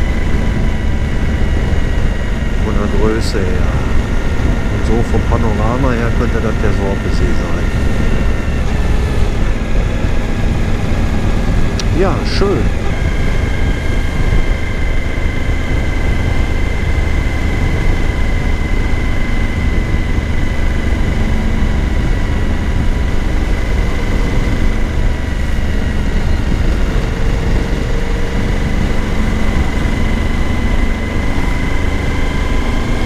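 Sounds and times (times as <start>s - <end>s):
motorcycle engine drone: 0.0s - 33.0s
wind rush: 0.0s - 33.0s.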